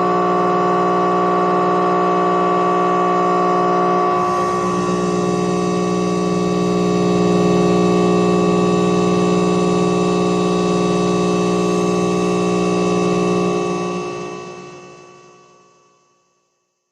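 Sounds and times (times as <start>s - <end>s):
electrical static buzz: 0.0s - 15.1s.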